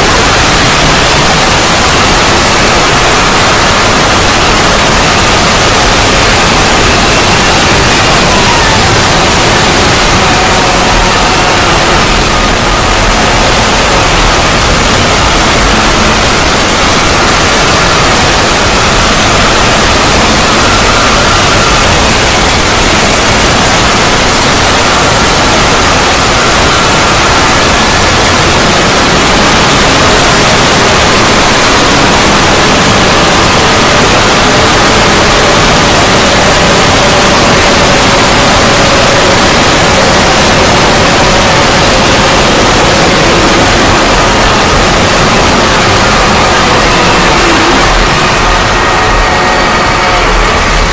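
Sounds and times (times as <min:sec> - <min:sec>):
loud static-like noise: 0:00.0 - 0:50.9.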